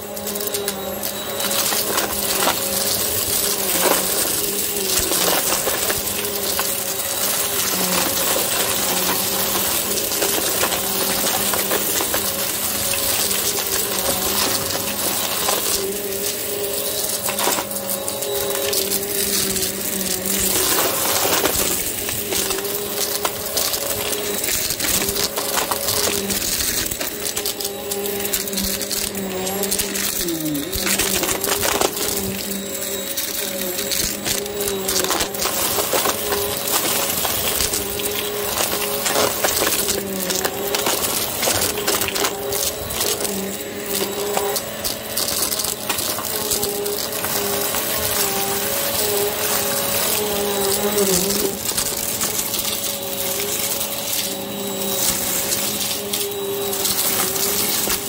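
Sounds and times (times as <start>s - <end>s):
crunching crackle and rattle: 0.0s - 58.0s
vacuum cleaner motor humming: 0.0s - 58.0s.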